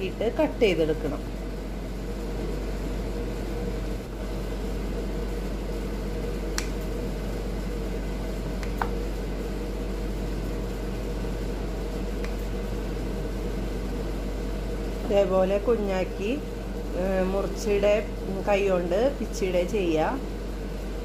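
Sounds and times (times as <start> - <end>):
mechanical room hum: 0.0 - 21.0.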